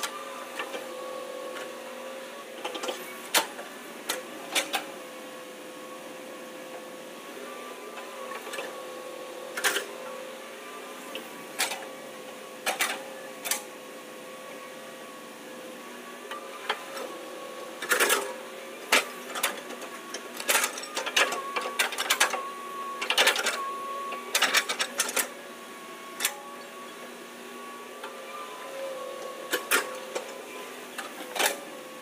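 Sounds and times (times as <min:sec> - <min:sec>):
excavator engine whine: 0:00.0 - 0:32.0.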